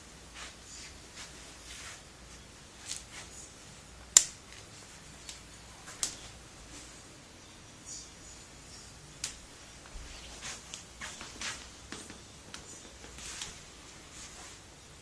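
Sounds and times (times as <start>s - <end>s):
soft handling noises: 0.3s - 7.1s, 9.1s - 14.7s.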